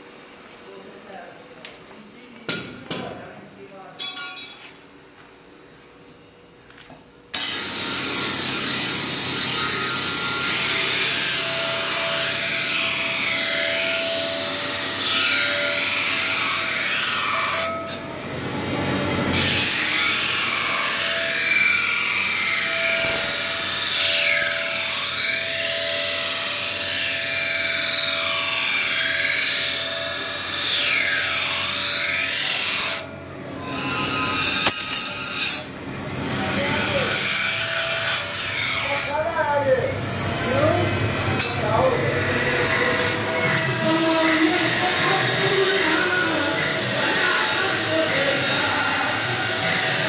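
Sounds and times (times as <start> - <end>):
blade grinding on grinding wheel: 7.4 - 50.0.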